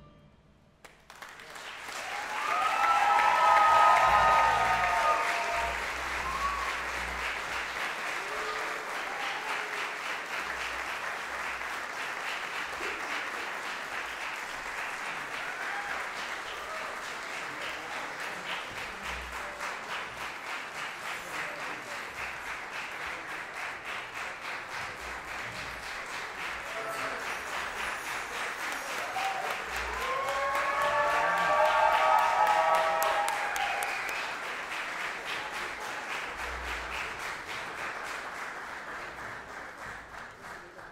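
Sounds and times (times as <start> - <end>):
audience applauding: 0.8 - 40.9.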